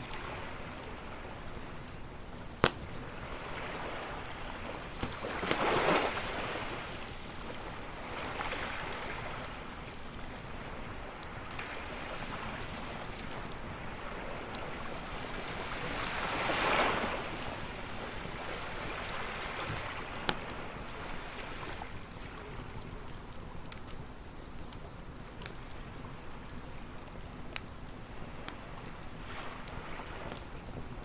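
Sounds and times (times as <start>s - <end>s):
ocean waves washing ashore: 0.0s - 23.4s, 28.1s - 31.0s
campfire crackling: 0.0s - 31.0s.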